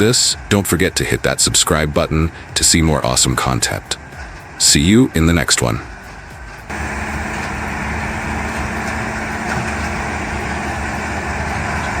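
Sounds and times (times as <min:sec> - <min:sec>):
heavy machine engine rumbling: 0:00.0 - 0:12.0.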